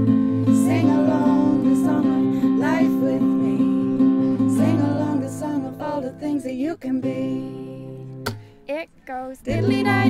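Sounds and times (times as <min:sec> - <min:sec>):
person singing: 0:00.0 - 0:08.0, 0:09.4 - 0:10.0
strummed acoustic guitar: 0:00.0 - 0:08.6, 0:09.5 - 0:10.0.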